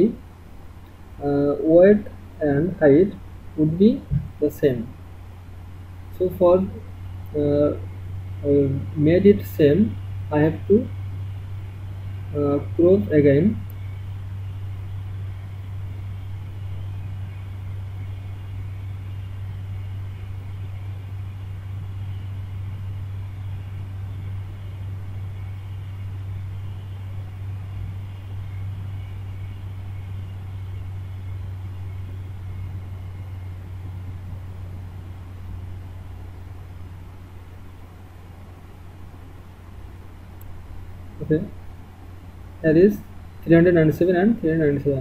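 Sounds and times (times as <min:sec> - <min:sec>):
faint hiss: 0:00.0 - 0:45.0
low hum: 0:00.0 - 0:45.0.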